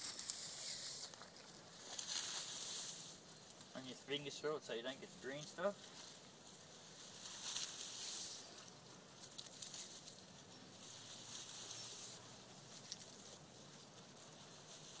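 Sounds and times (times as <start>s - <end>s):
dry grass rustling: 0.0s - 15.0s.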